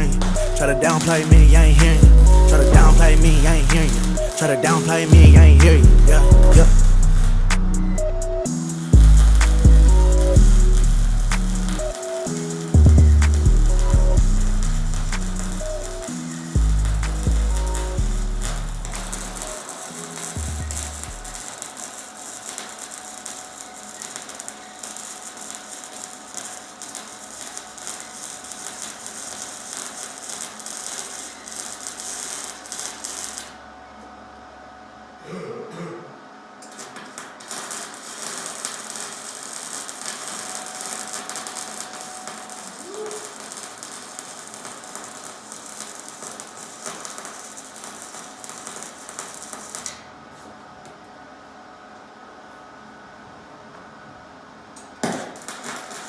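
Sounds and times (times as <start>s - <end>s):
welding arc crackling: 0.0s - 33.6s, 36.6s - 50.1s, 54.8s - 56.0s.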